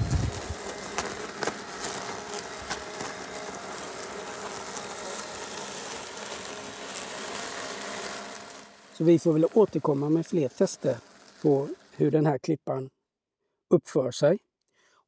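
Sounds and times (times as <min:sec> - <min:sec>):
robotic mower motor whine: 0:00.0 - 0:12.3.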